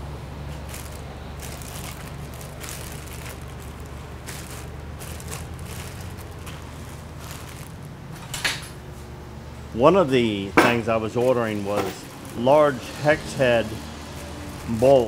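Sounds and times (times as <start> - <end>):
low machinery hum: 0.0 - 15.0
clicks and rustles of parts: 0.5 - 8.8, 10.6 - 15.0.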